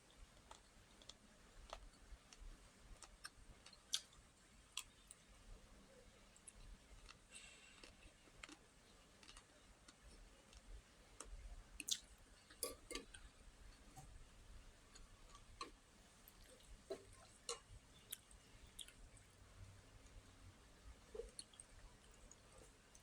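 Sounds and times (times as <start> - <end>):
person chewing food: 0.1 - 5.2, 6.3 - 14.2, 14.8 - 20.3, 21.0 - 23.0.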